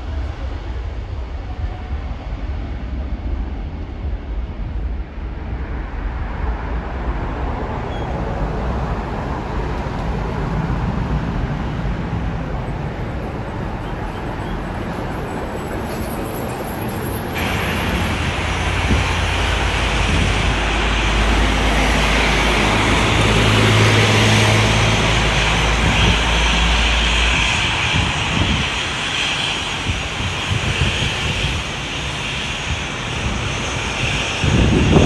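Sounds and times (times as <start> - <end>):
aircraft engines passing: 0.0 - 35.0.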